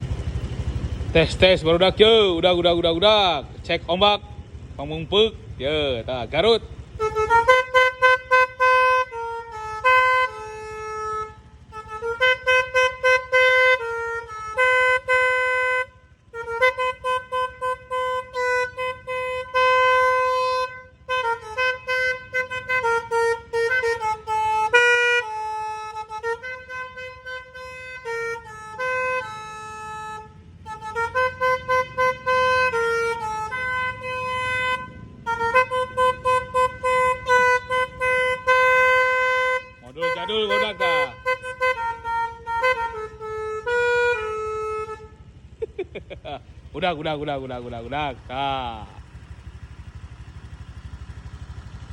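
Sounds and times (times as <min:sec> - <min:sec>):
multi-tone horn playing melody: 0:05.4 - 0:45.8, 0:46.4 - 0:51.9.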